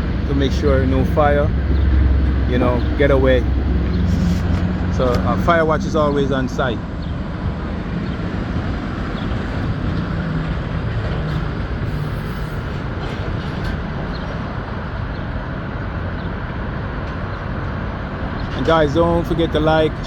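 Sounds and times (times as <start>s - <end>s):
heavy equipment rumble and hiss: 0.0s - 20.0s.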